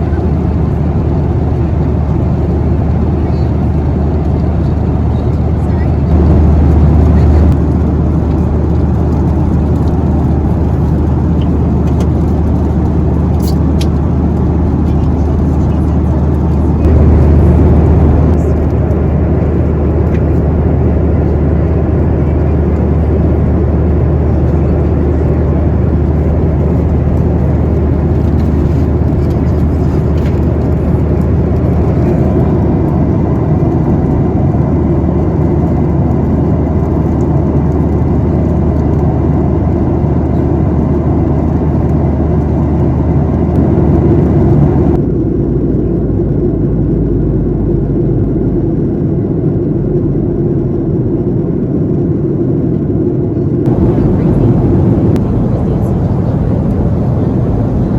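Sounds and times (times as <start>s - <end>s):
low hum: 0.0s - 48.6s, 53.4s - 57.9s
jet engine cabin drone: 0.0s - 57.9s.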